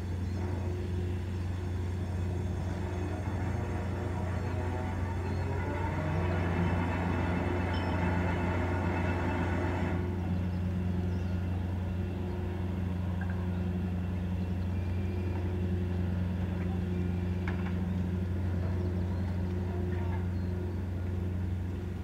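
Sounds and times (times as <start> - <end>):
ship engine idling: 0.0 - 22.0.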